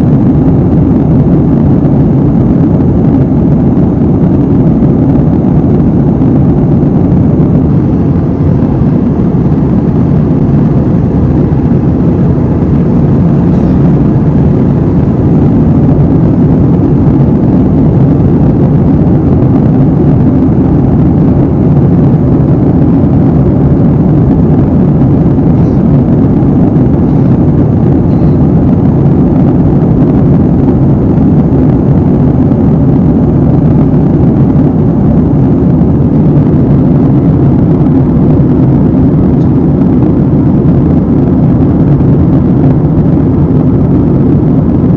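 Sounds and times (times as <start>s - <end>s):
faint high whine: 0.0s - 44.9s
jet engine cabin hum: 0.0s - 44.9s.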